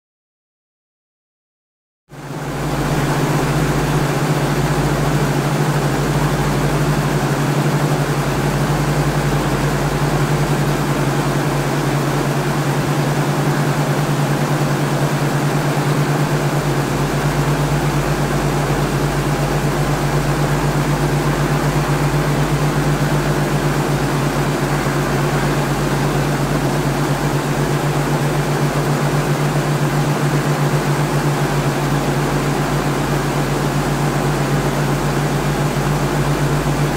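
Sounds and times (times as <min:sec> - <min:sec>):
helicopter cabin drone: 0:02.1 - 0:36.9.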